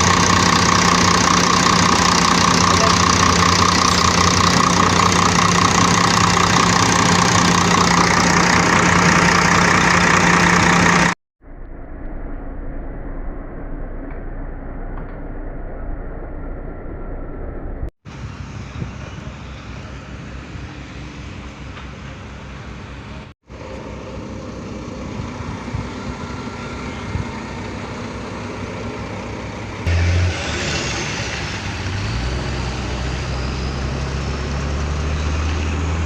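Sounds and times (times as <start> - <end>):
diesel engine running: 0.0 - 11.2, 12.4 - 36.0.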